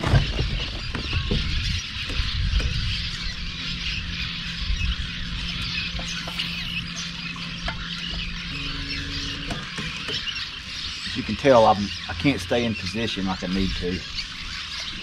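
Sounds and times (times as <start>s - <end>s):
flock of birds chirping: 0.0s - 15.0s
electric trolling motor humming: 1.1s - 15.0s.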